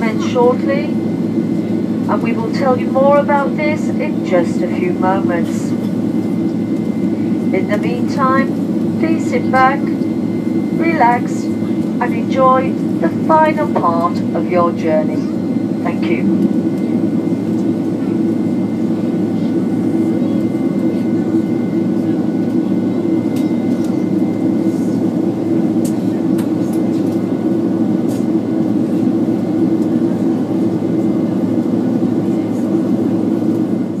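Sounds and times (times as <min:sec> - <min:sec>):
airliner cabin roar: 0:00.0 - 0:34.0.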